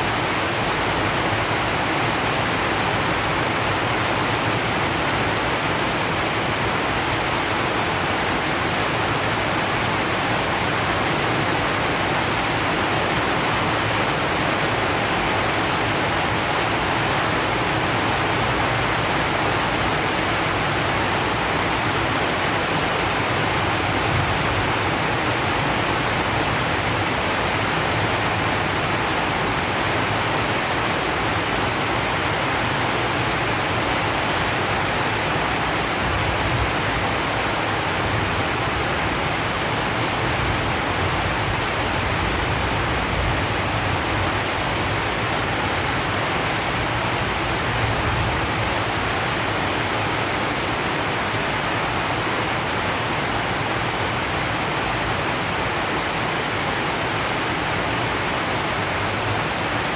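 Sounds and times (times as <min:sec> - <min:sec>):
rain on a metal roof: 0:00.0 - 0:59.9.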